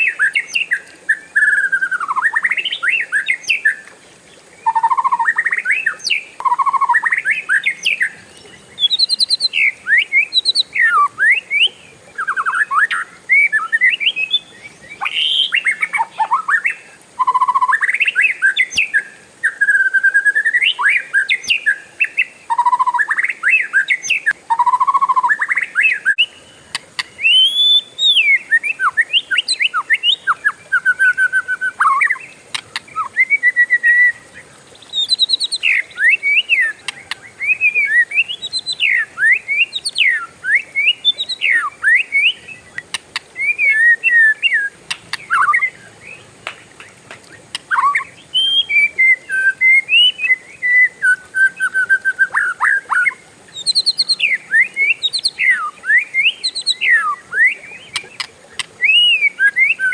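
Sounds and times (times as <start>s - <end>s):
bird singing whistled song: 0.0s - 3.9s, 4.6s - 59.9s.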